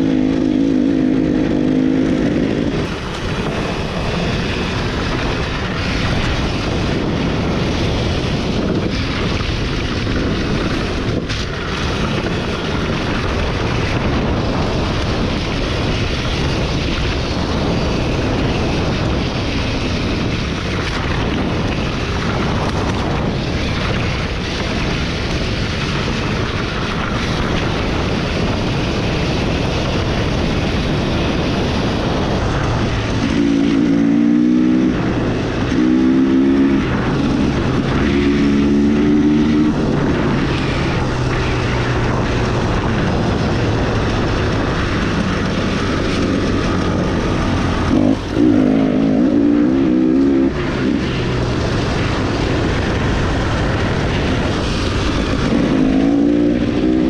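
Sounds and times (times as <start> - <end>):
dirt bike engine: 0.0 - 57.0
wind buffeting microphone: 0.0 - 57.0.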